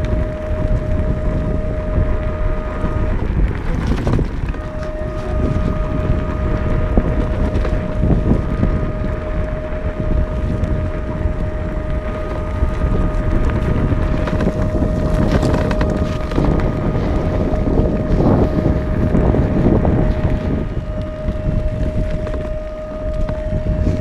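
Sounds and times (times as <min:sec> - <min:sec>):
steady high whine: 0:00.0 - 0:24.0
wind buffeting microphone: 0:00.0 - 0:24.0.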